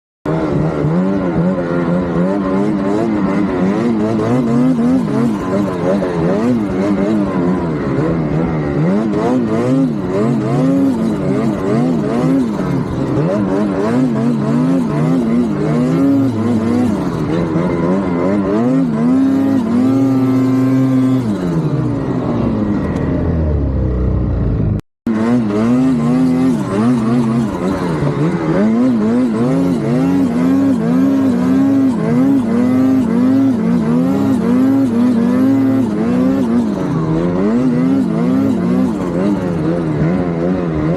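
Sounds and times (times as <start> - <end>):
turbocharged engine running: 0.3 - 40.9.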